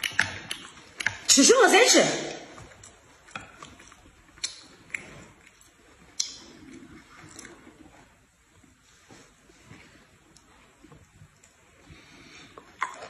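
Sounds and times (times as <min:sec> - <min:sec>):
faint chewing: 0:00.0 - 0:01.4, 0:02.4 - 0:13.0.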